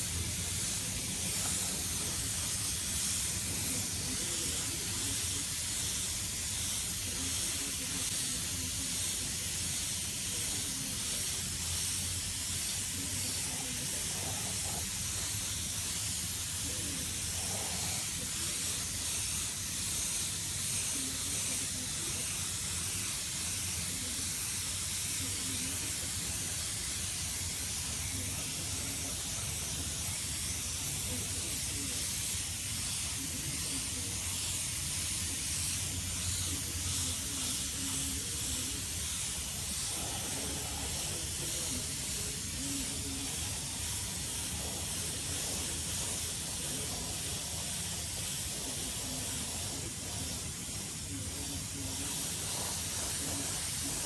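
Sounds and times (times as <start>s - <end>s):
spray gun hissing: 0.0s - 54.0s.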